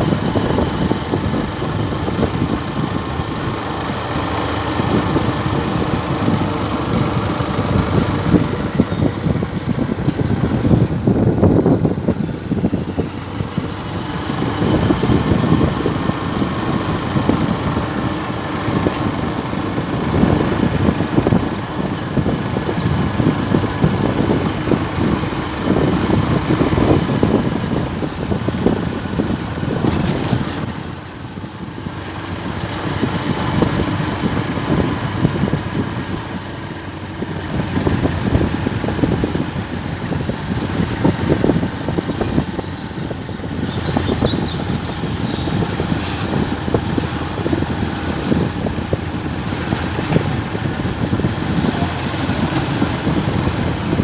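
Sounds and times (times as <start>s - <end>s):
road and wind noise: 0.0s - 54.0s
vehicle engine on the road: 0.0s - 54.0s.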